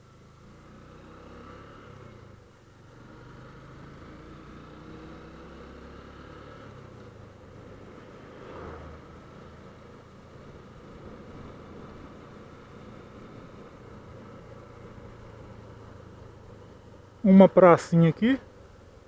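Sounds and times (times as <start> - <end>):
motorcycle engine at low speed: 0.0 - 19.0
car passing: 0.6 - 19.0.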